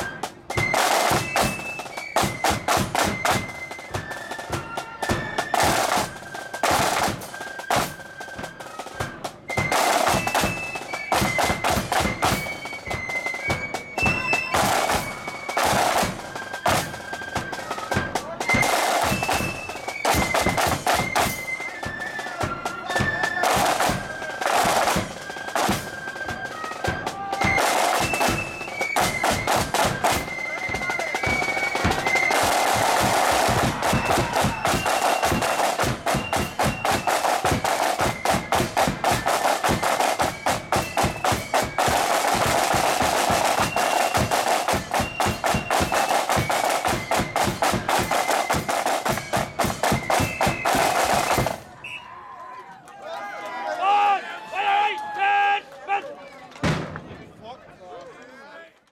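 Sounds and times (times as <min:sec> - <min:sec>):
snare drum rolls: 0:00.0 - 0:52.0, 0:56.6 - 0:57.4
high flute melody: 0:00.0 - 0:52.7.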